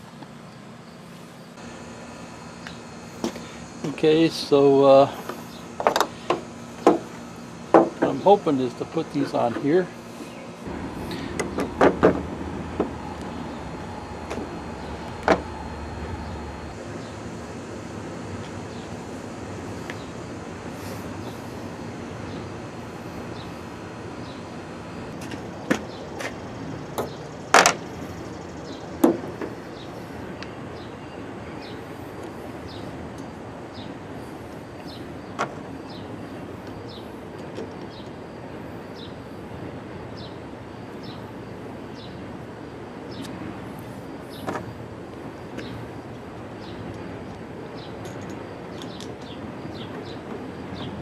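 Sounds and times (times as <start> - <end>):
steady background noise: 0.0 - 51.0.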